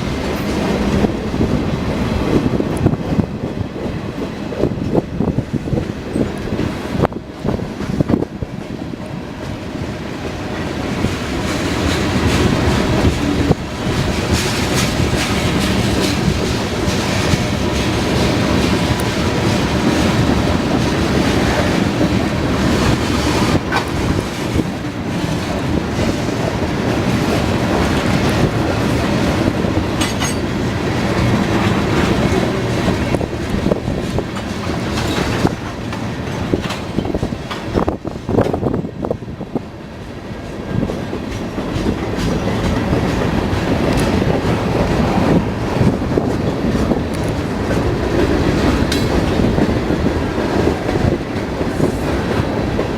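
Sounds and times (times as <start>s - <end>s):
train wheels clacking over rail joints: 0.0s - 52.9s.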